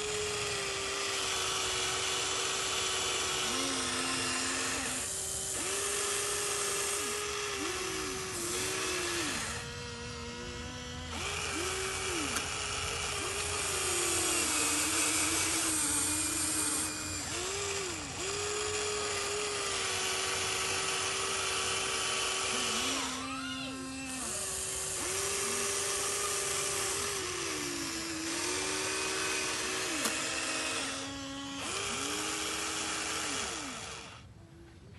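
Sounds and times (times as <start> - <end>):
small electric motors whining: 0.0 - 34.6.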